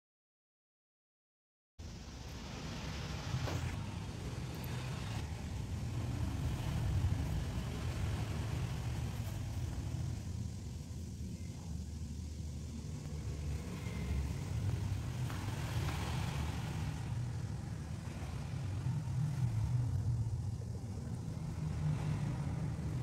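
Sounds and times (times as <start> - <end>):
low engine rumble: 1.8 - 23.0.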